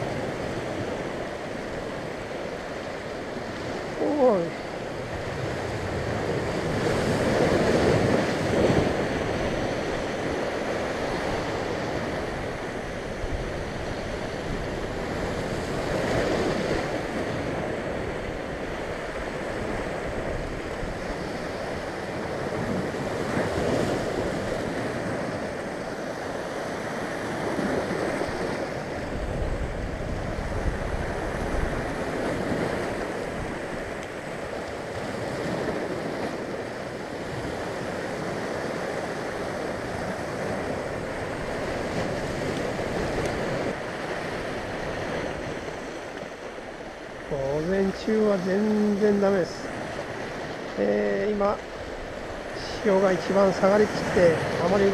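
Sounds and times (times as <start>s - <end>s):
waves breaking on rocks: 0.0s - 54.9s.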